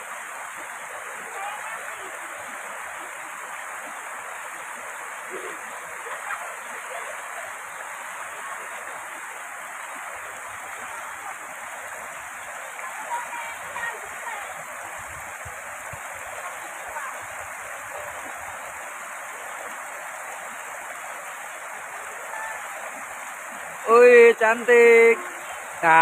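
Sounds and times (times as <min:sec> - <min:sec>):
stream rushing over boulders: 0:00.0 - 0:26.0.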